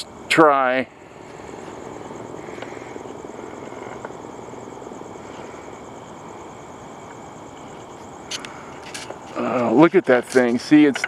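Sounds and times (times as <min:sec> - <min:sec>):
distant engine drone: 0:00.0 - 0:11.0
high pulsing insect chirr: 0:00.0 - 0:11.0.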